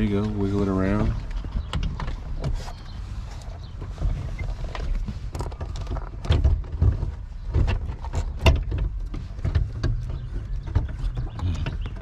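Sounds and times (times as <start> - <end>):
metal clunks and rattles: 0.9 - 2.8, 3.7 - 12.0.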